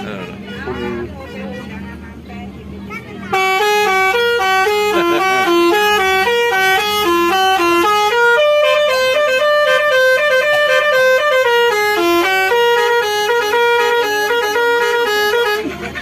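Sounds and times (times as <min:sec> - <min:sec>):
bus air horn playing a tune: 0:00.0 - 0:02.0, 0:02.9 - 0:16.0.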